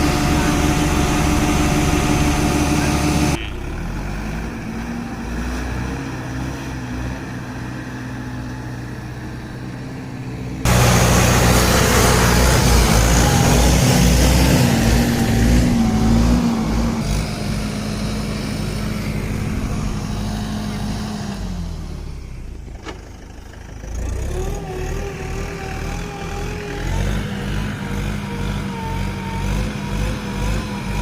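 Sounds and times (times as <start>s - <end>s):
diesel tractor engines under load: 0.0s - 31.0s.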